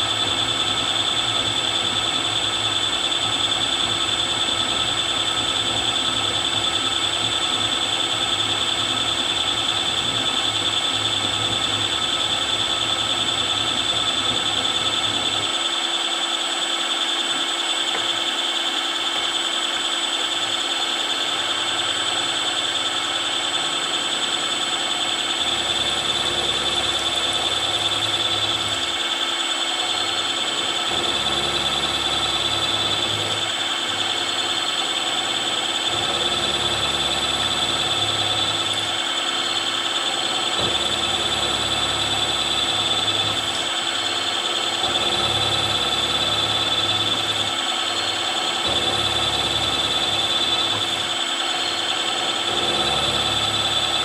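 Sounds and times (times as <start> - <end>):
milling machine whine: 0.0 - 54.0.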